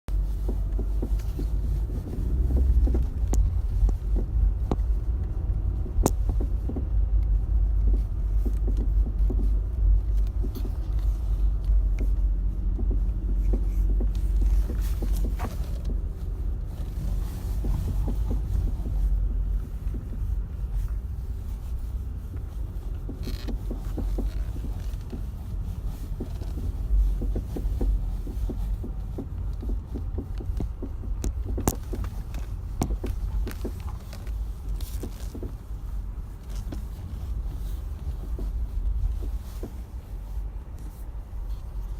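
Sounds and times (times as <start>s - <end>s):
road rumble inside car: 0.0s - 41.9s
suspension knocking: 0.1s - 40.1s.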